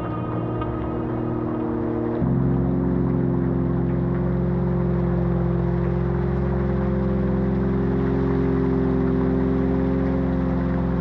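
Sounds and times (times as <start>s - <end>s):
synth drone: 0.0s - 11.0s.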